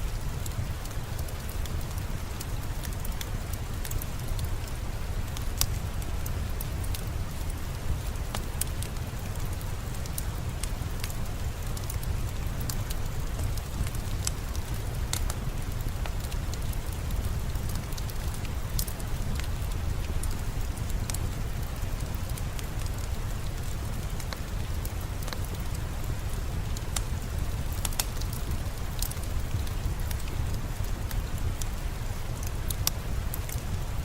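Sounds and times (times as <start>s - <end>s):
steady rain falling: 0.0s - 34.0s
fireplace crackling and popping: 0.1s - 34.0s.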